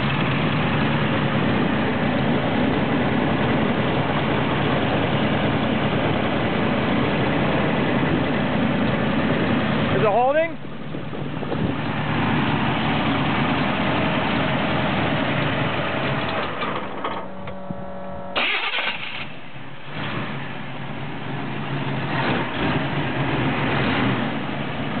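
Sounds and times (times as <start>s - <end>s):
car engine idling unevenly: 0.0s - 25.0s.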